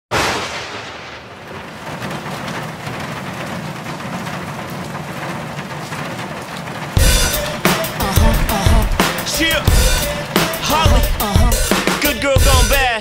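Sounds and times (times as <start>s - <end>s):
thunderclap crack: 0.1s - 12.3s
steady rain: 0.2s - 13.0s.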